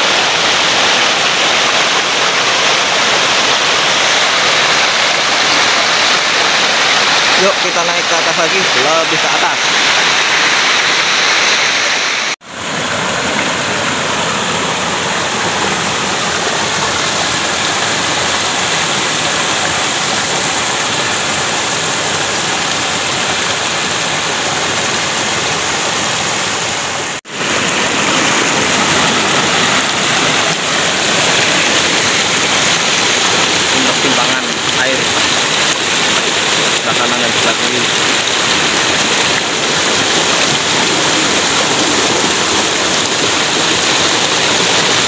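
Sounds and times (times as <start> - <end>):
stream cascading over boulders: 0.0 - 45.0.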